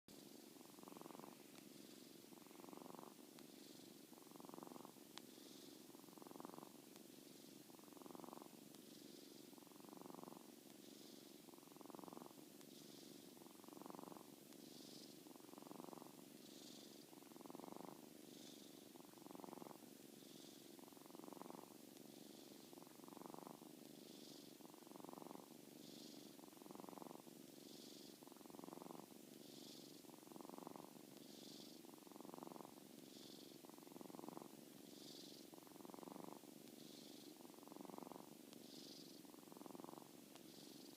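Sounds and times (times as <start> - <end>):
kitten snoring faintly: 0.0 - 40.9.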